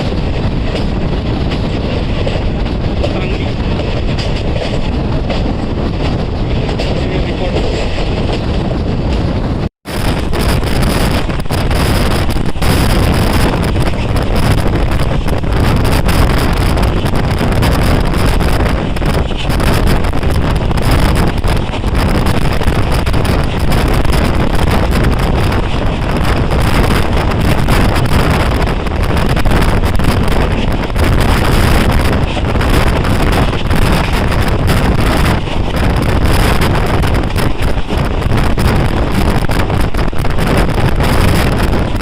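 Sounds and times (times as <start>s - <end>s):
train rumbling on track: 0.0s - 42.0s
wind buffeting microphone: 0.0s - 42.0s.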